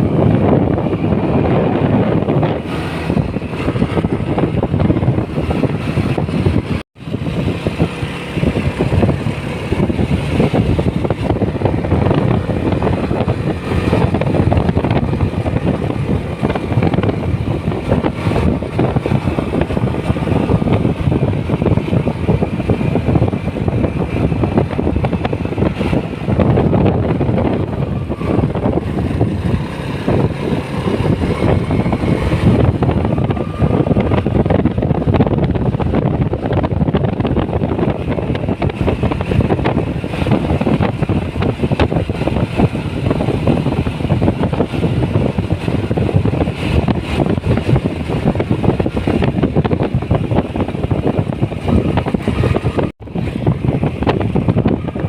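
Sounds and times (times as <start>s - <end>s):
motorcycle engine rumbling: 0.0s - 55.0s
wind buffeting microphone: 0.0s - 55.0s.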